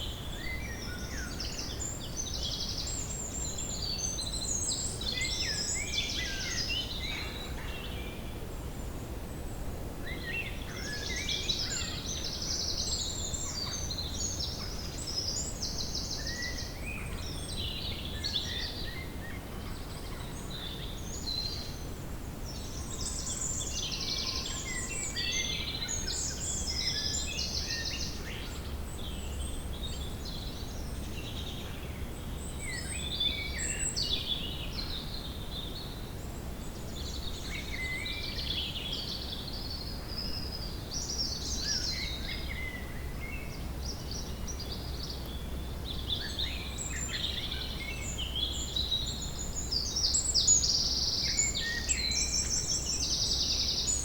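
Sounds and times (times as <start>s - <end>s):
songbirds singing and trilling: 0.0s - 54.0s.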